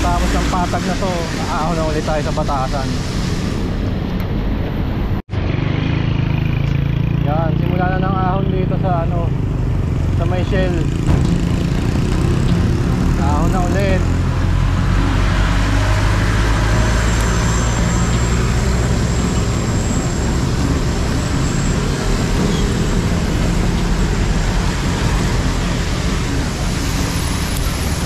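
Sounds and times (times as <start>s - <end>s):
road traffic engine rumble: 0.0s - 28.0s.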